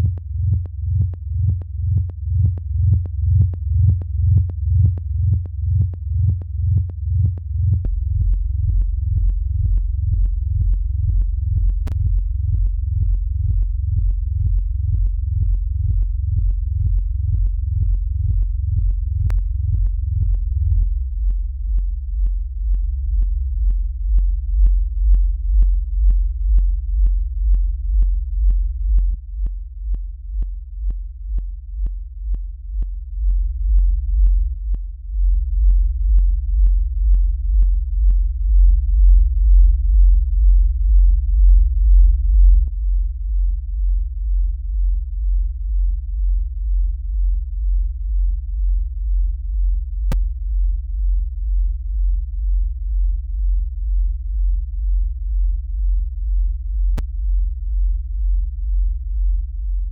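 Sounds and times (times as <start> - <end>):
pulsing synthesizer bass: 0.0 - 59.9.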